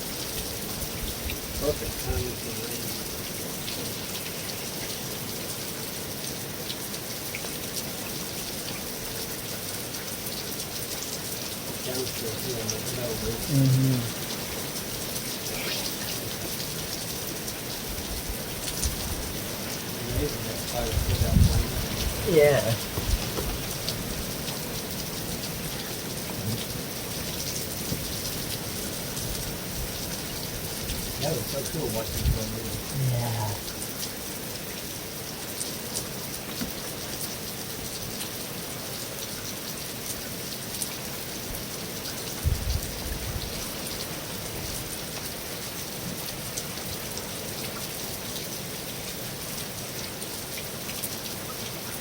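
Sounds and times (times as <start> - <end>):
rain on a metal roof: 0.0 - 52.0.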